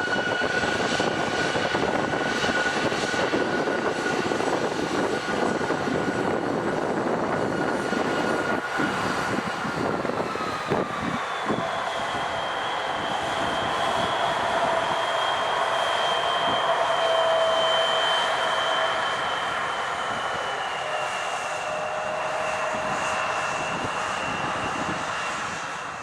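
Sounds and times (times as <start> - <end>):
airplane engines running: 0.0 - 26.0.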